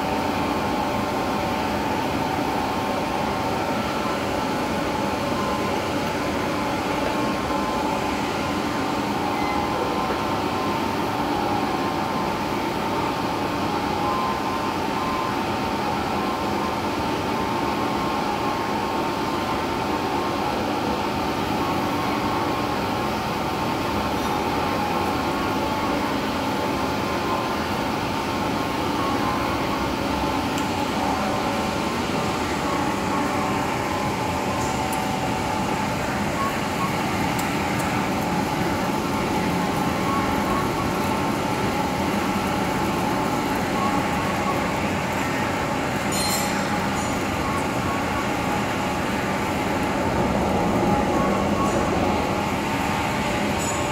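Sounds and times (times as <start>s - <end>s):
lathe machine hum: 0.0s - 53.9s.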